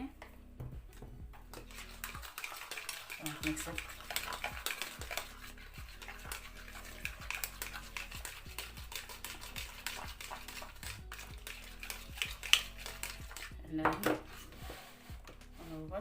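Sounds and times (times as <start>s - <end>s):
background music with low beat: 0.0s - 16.0s
utensil scraping a bowl: 1.4s - 15.9s.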